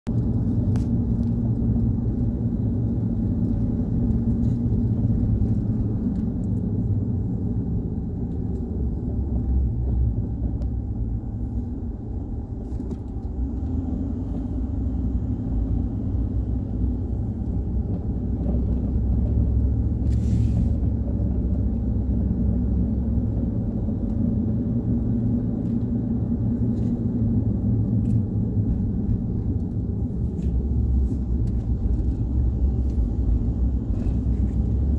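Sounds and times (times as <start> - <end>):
road and engine rumble in car: 0.0 - 34.9.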